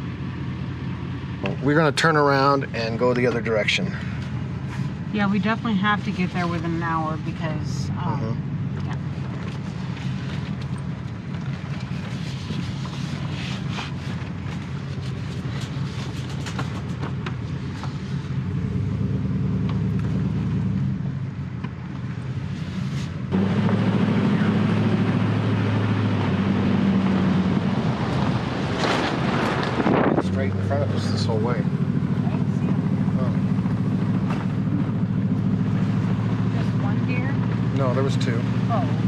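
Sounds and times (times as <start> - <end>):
vehicle engine and tyre noise: 0.0 - 39.0.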